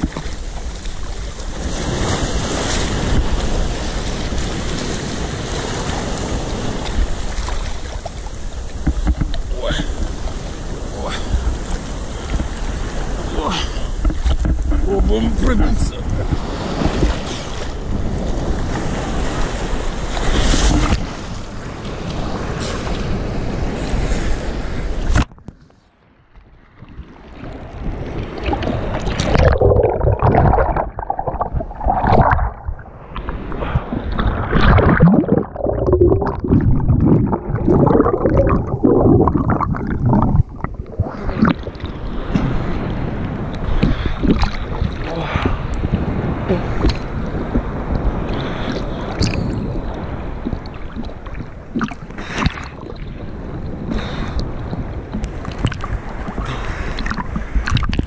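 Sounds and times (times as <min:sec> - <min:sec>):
water splashes: 0:00.0 - 0:25.5, 0:26.4 - 0:58.0
sea water churning and gurgling: 0:00.0 - 0:58.0.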